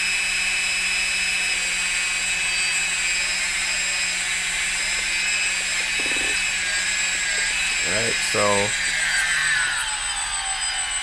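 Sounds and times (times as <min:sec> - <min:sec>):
quadcopter propellers whining: 0:00.0 - 0:11.0.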